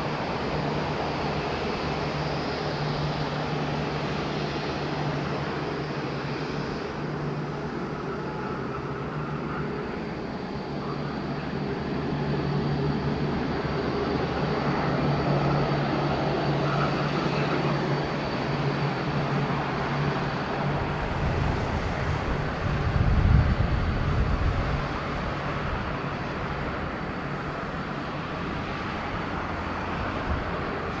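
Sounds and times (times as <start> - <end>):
jet engine roar with high whine: 0.0 - 31.0.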